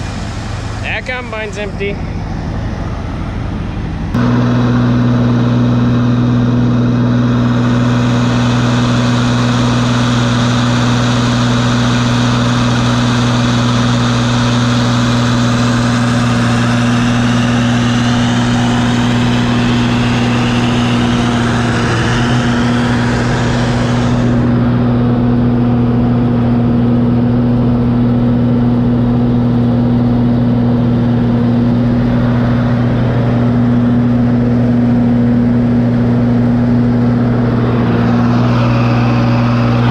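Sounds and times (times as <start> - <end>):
combine engine humming: 0.0 - 39.9
rushing mechanical noise: 0.0 - 39.9.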